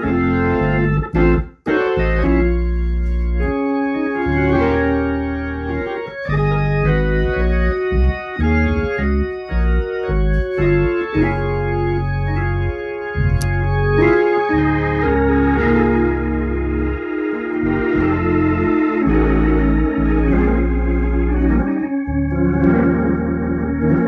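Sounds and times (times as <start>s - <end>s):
organ chords: 0.0s - 24.0s.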